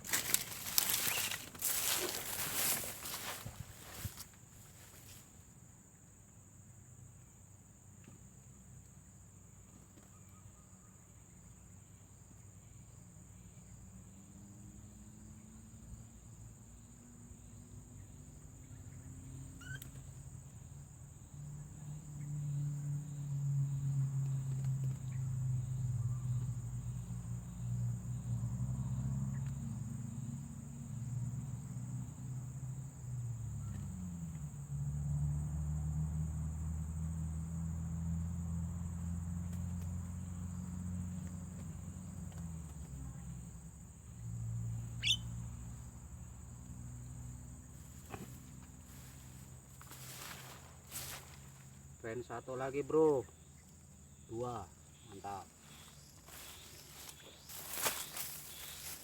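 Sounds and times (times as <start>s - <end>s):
crickets buzzing: 0.0s - 59.0s.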